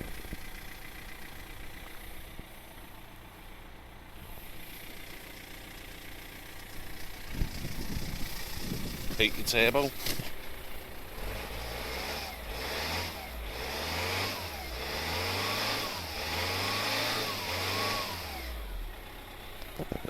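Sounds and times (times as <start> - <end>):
diesel engine revving: 0.0 - 20.0.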